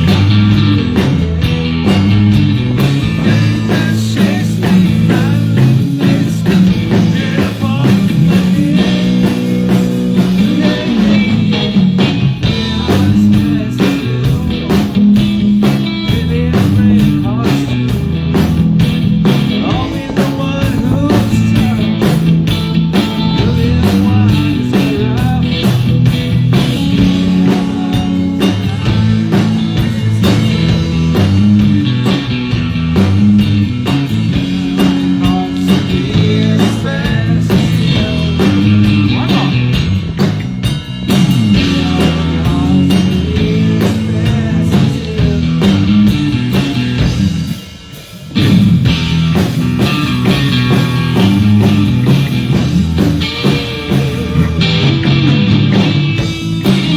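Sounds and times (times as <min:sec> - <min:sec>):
bass line: 0:00.0 - 0:56.9
electric guitar: 0:00.0 - 0:56.9
live blues-rock band: 0:00.0 - 0:56.9
steady drum beat: 0:00.0 - 0:56.9.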